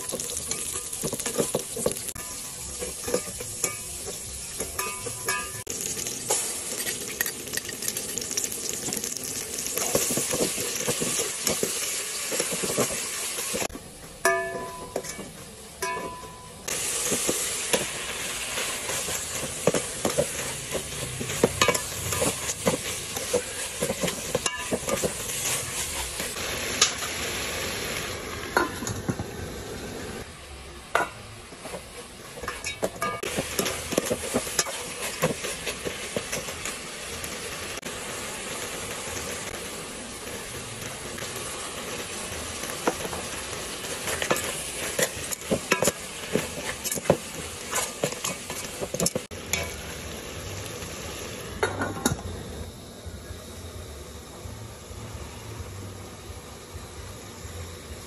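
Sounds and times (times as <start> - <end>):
meat sizzling in a pot: 0.0 - 58.0.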